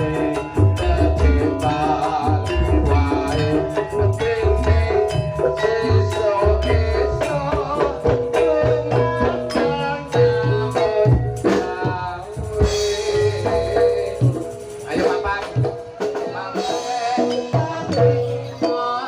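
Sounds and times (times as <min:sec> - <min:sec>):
fast hand drumming: 0:00.0 - 0:19.0.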